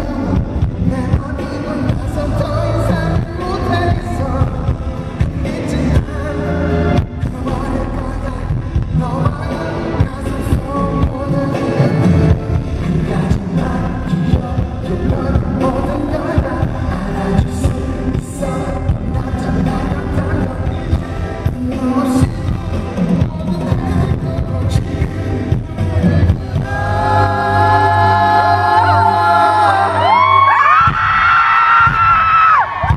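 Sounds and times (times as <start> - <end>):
live pop song over sound system: 0.0 - 32.9.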